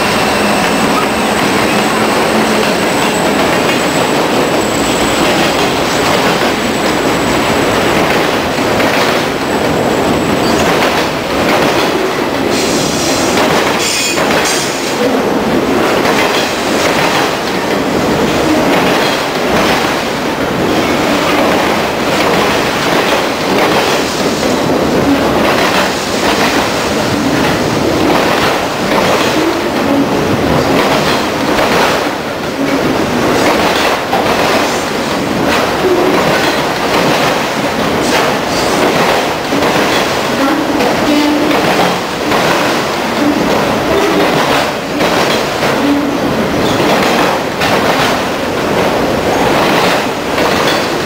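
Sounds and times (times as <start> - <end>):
steel wheels rumbling on rail: 0.0 - 51.0
wheels clacking over rail joints: 0.0 - 51.0.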